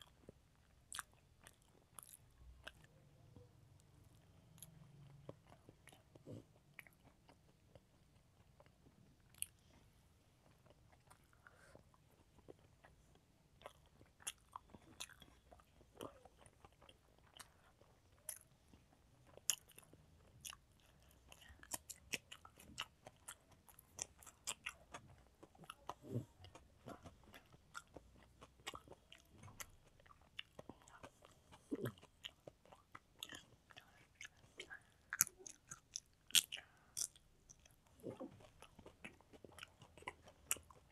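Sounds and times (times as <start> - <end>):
soft chewing: 0.0 - 40.9.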